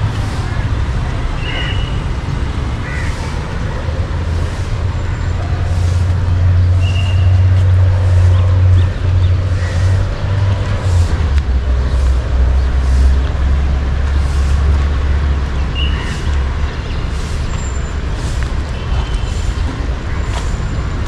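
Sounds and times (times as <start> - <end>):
road traffic noise: 0.0 - 21.0
vehicle engine rumbling: 0.0 - 21.0.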